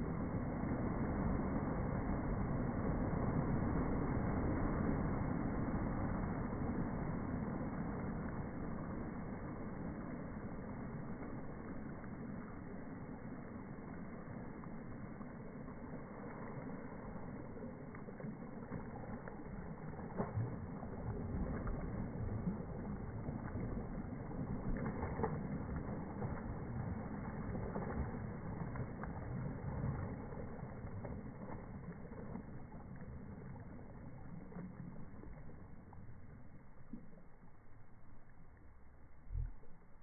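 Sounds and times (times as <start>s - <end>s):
waves washing on beach: 0.0s - 37.4s
water splashes: 0.0s - 40.0s.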